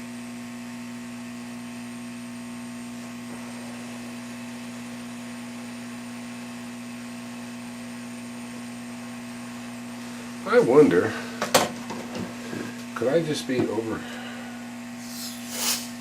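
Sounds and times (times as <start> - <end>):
hot air blower whirring: 0.0 - 16.0.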